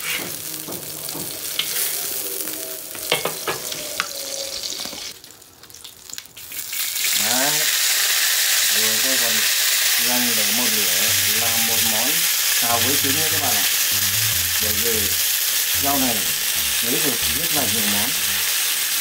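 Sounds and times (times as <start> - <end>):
greens sizzling in hot fat: 0.0 - 19.0.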